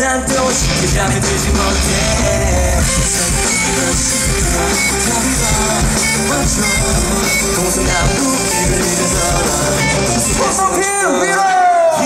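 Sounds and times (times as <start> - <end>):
electric guitar: 0.0 - 12.0
rock band playing: 0.0 - 12.0.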